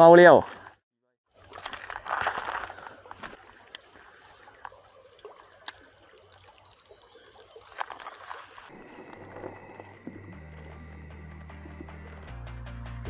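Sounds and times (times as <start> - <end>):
shallow stream flowing: 1.3 - 12.3.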